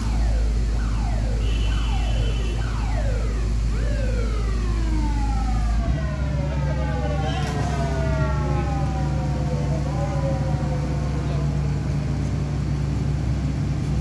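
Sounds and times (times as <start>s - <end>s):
siren wailing: 0.0s - 13.1s
low engine rumble: 0.0s - 14.0s.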